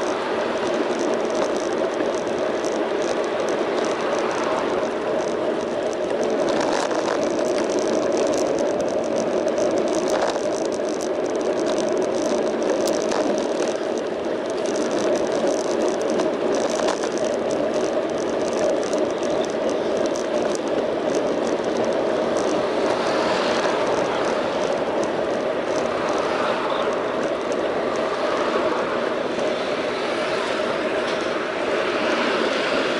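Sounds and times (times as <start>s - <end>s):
bicycle rattles and clicks: 0.0s - 32.9s
bicycle rolling noise: 0.0s - 32.9s.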